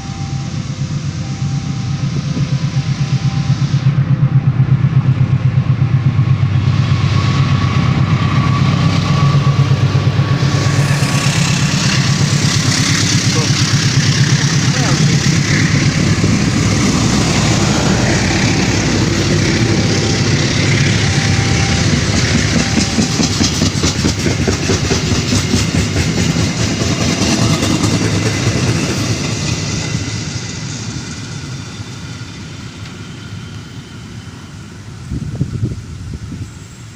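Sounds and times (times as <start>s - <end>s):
train wheels clattering on rails: 0.0s - 35.6s.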